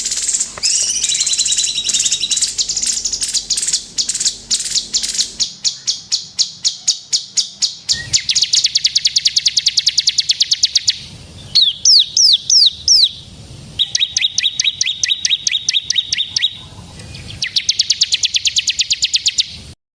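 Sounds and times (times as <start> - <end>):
songbird singing trills: 0.0 - 19.6.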